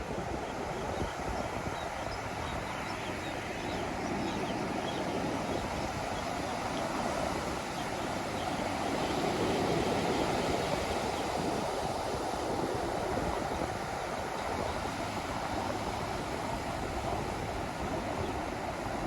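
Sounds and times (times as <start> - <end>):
ocean waves washing on beach: 0.0 - 19.0.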